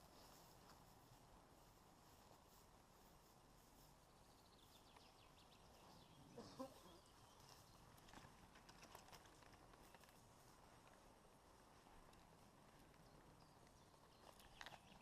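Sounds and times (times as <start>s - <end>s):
faint ticks and crackles: 0.0s - 15.0s.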